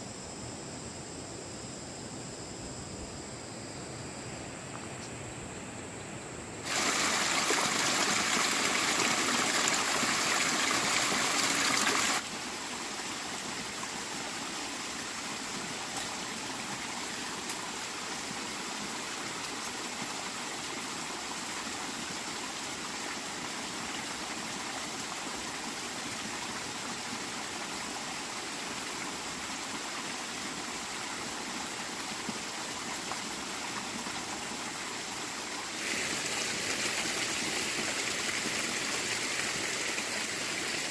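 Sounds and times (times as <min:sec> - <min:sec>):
water rushing: 0:06.6 - 0:40.9.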